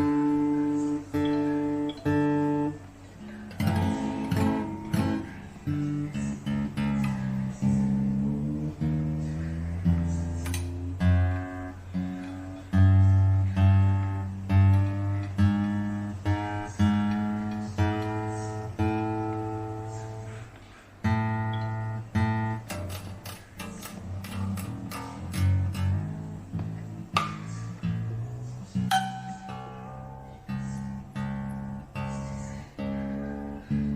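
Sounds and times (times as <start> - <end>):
acoustic guitar played slowly: 0.0 - 33.9.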